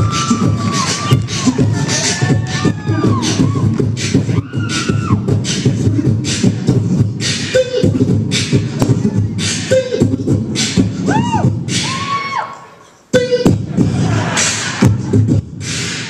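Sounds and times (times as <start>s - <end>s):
man beatboxing into microphone: 0.0s - 12.1s, 13.0s - 16.0s
vocal pitch slides: 0.0s - 12.2s, 13.1s - 16.0s.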